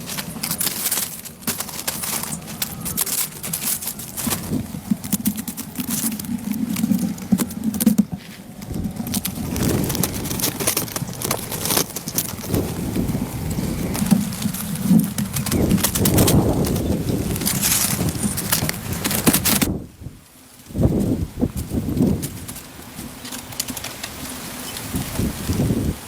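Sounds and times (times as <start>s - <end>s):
low rustling noise: 0.0s - 26.0s.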